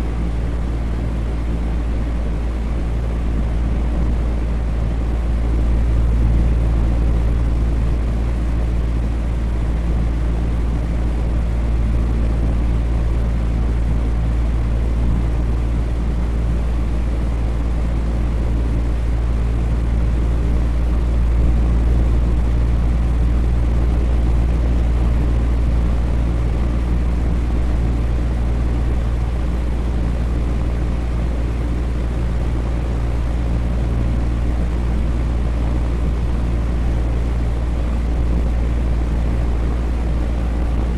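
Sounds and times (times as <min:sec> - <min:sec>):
low motor hum: 0:00.0 - 0:40.9.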